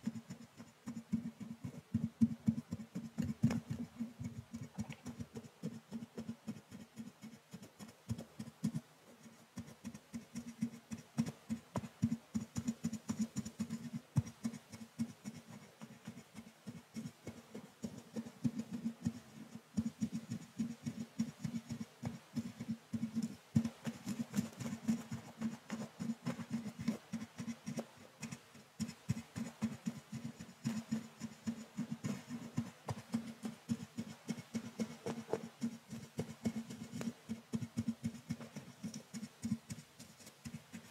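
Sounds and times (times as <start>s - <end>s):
brush scratching microphone grille: 0.0s - 40.9s.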